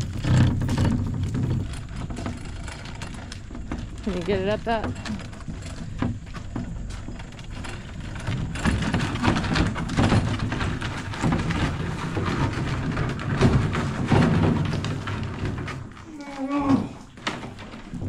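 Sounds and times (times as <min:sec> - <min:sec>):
cabinet wheels rumbling: 0:00.0 - 0:18.0
wheels crunching over gravel: 0:00.0 - 0:18.0.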